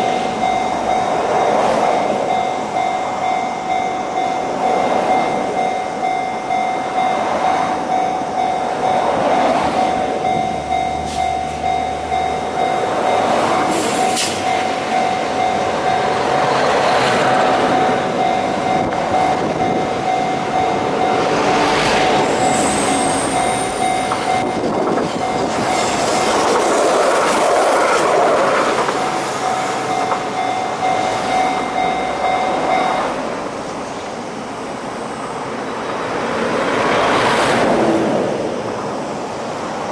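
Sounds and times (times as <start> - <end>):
electronic crossing warning bell: 0.0 - 34.4
high whine from tram wheels: 0.0 - 39.9
tram passing: 0.0 - 39.9.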